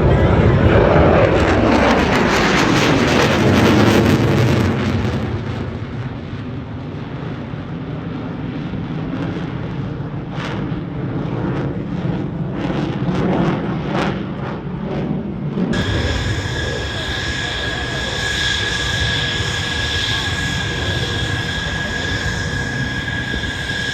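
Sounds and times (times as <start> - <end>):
aircraft flying past: 0.0 - 23.9.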